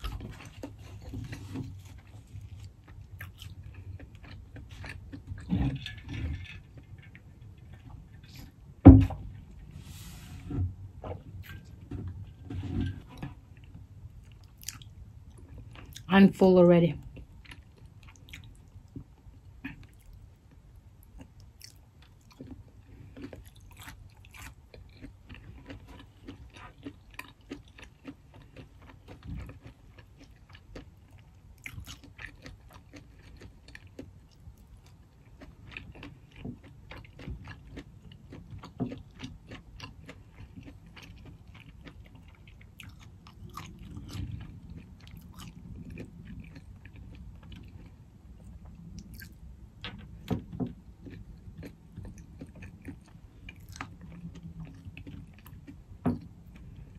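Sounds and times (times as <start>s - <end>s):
chewing and wet mouth sounds: 0.0s - 8.7s, 13.1s - 56.9s.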